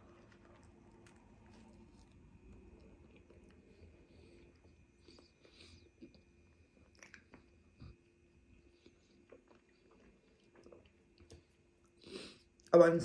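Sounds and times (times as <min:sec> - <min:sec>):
chewing food: 0:00.0 - 0:12.7.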